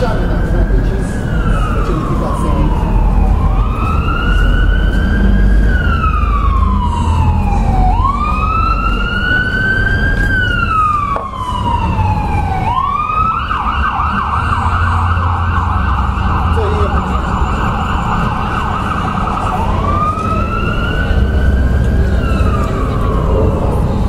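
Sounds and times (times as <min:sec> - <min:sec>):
siren fast yelp: 0:00.0 - 0:23.4
emergency siren wailing: 0:00.0 - 0:24.0.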